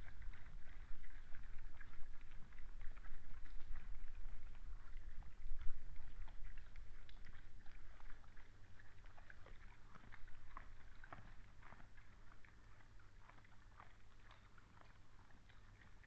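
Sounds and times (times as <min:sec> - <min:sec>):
low steady hum: 0:00.0 - 0:16.0
animals crunching feed: 0:00.1 - 0:16.0.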